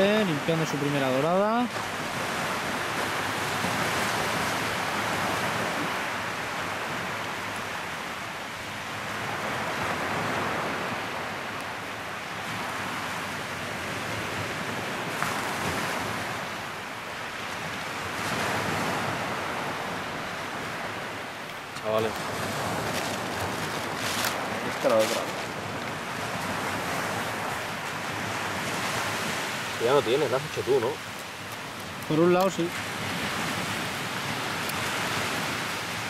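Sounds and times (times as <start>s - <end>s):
sea waves on sandy beach: 0.0s - 36.0s.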